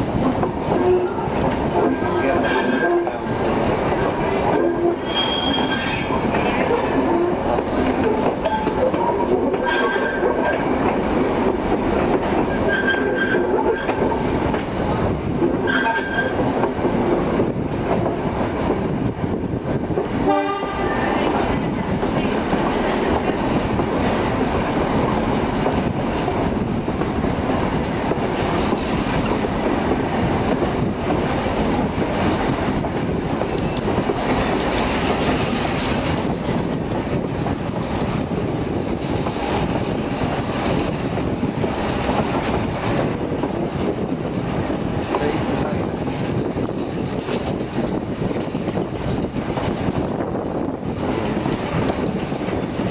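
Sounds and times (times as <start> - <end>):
train wheels rumbling and rattling: 0.0 - 52.9.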